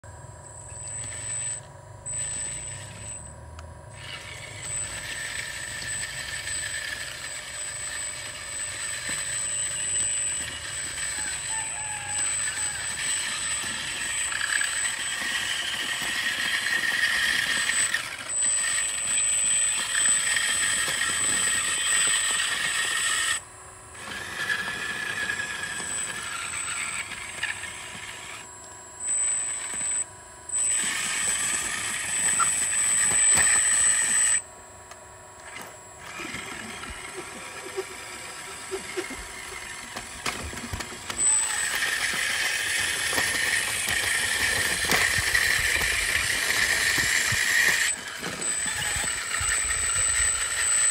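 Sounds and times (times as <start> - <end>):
hydraulic pump whining: 0.0 - 50.9.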